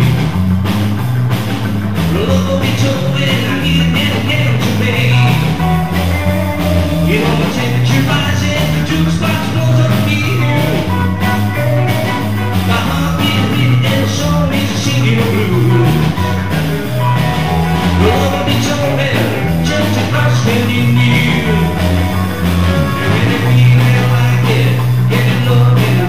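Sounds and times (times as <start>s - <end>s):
drums: 0.0s - 26.0s
electric bass line: 0.0s - 26.0s
electric guitar: 0.0s - 26.0s
man singing: 2.0s - 26.0s.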